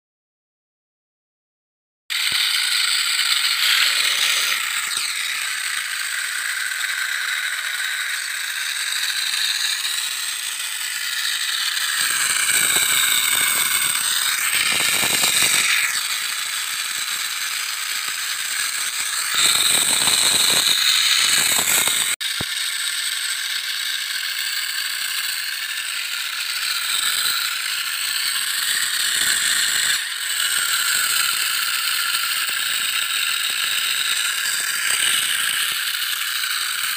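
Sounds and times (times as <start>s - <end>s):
toy tank motors whirring: 2.1s - 36.9s.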